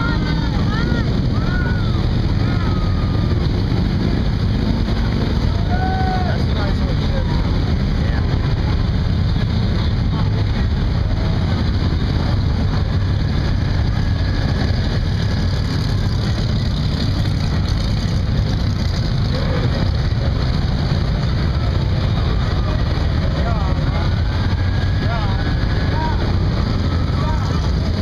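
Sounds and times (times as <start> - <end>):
faint voices: 0.0 - 28.0
vehicle engine rumbling: 0.0 - 28.0.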